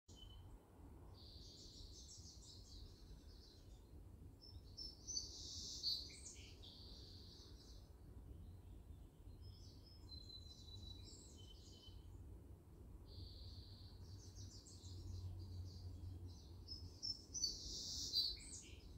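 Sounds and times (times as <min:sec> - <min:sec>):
songbirds singing: 0:00.1 - 0:12.4, 0:13.0 - 0:18.9
low steady background rumble: 0:00.2 - 0:18.9.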